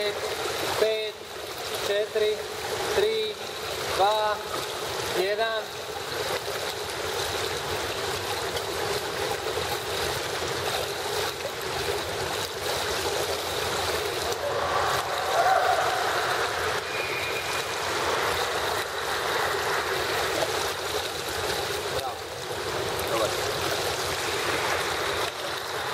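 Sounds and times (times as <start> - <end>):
water lapping and trickling: 0.0 - 25.9.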